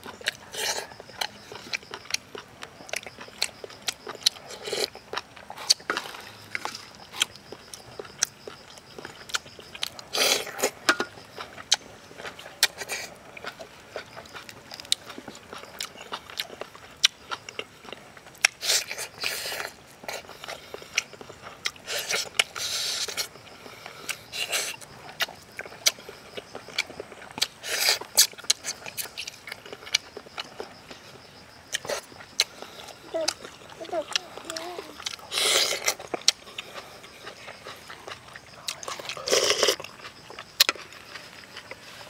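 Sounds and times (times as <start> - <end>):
biting and chewing: 0.0 - 42.0.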